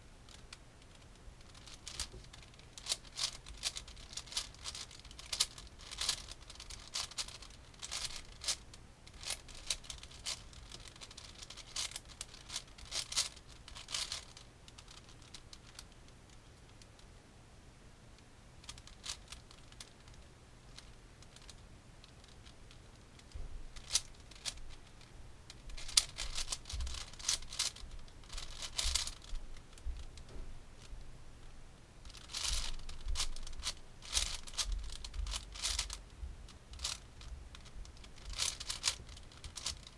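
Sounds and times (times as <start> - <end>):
puzzle cube clicking and scraping: 0.3 - 15.9, 18.6 - 30.2, 32.0 - 39.9.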